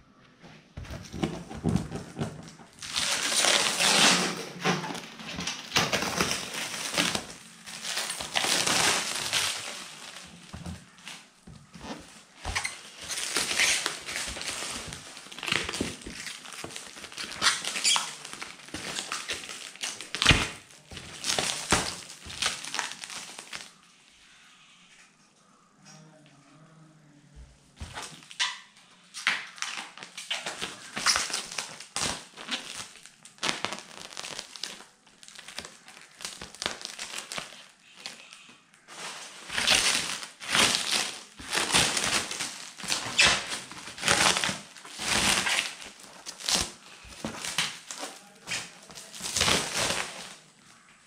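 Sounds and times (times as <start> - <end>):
plastic stretch wrap crinkling: 0.8 - 24.2, 27.8 - 51.0.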